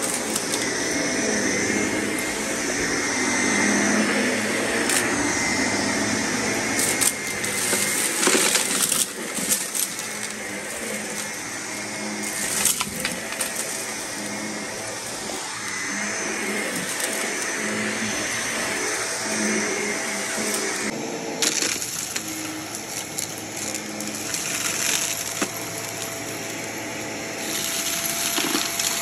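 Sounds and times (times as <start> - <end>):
grit crackling through vacuum hose: 0.0 - 29.0
vacuum cleaner motor humming: 0.0 - 29.0.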